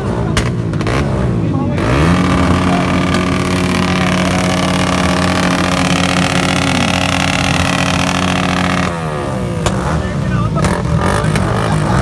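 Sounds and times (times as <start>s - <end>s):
motorcycle engine revving: 0.0s - 12.0s
other engines revving faintly: 0.0s - 12.0s.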